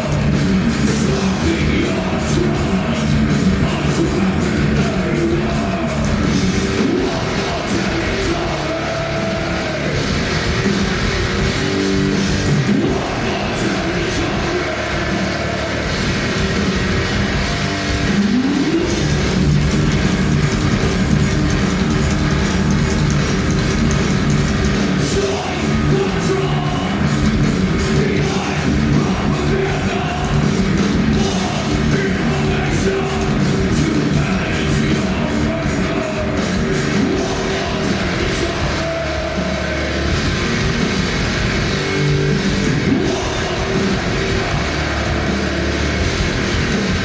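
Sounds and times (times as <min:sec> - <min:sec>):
heavy metal band playing live: 0:00.0 - 0:47.0.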